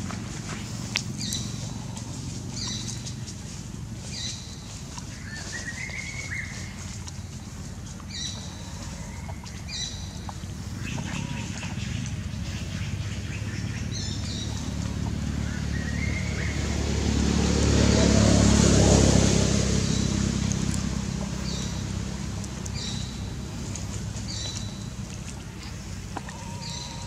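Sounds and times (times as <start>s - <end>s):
vehicle driving past: 0.0s - 27.0s.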